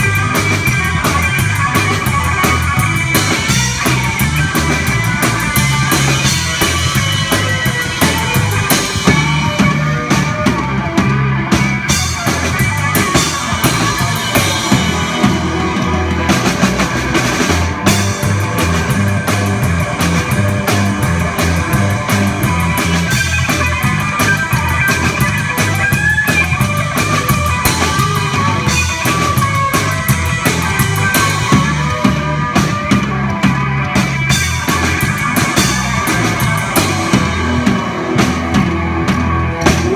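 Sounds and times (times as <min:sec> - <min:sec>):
double bass line: 0:00.0 - 0:39.9
drum kit beat: 0:00.0 - 0:39.9
electric guitar: 0:00.0 - 0:39.9.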